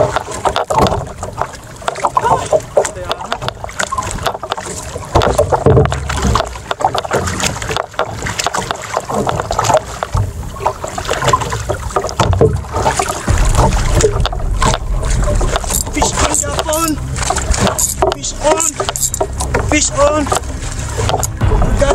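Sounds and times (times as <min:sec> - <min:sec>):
choppy waves: 0:00.0 - 0:21.9
water slapping against boat: 0:00.0 - 0:21.9
wind buffeting microphone: 0:00.0 - 0:21.9.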